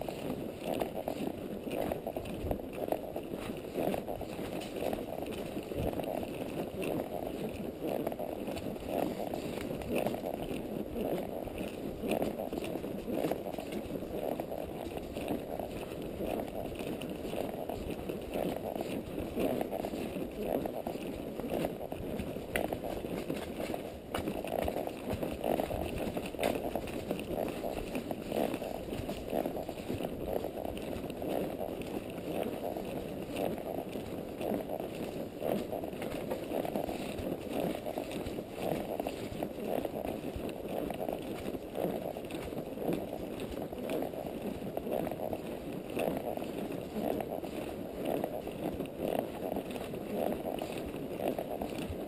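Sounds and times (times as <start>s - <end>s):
horse hooves walking on dirt: 0.0s - 52.0s.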